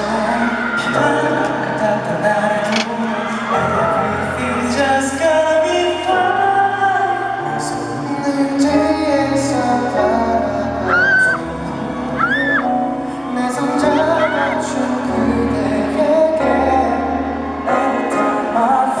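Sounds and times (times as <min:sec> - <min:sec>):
backing music: 0:00.0 - 0:19.0
man singing a pop ballad: 0:00.0 - 0:19.0.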